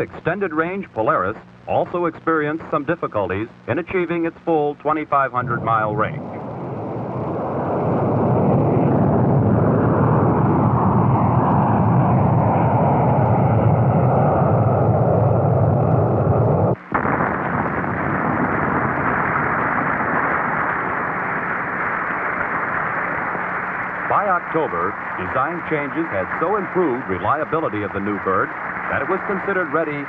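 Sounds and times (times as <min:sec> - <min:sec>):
rocket motor roaring: 0:05.4 - 0:30.0.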